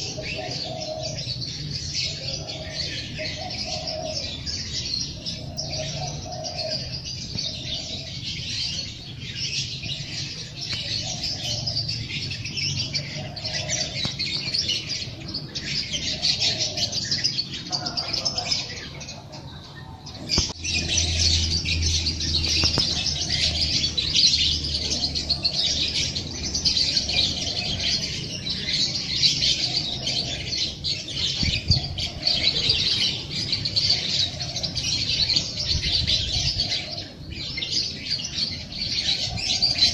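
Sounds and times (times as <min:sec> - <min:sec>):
dove cooing: 0:00.0 - 0:39.9
songbirds chirping: 0:00.0 - 0:39.9.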